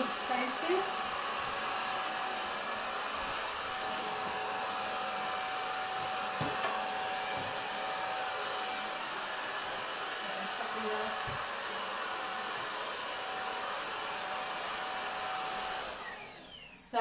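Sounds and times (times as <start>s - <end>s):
stick vacuum running: 0.0s - 16.7s.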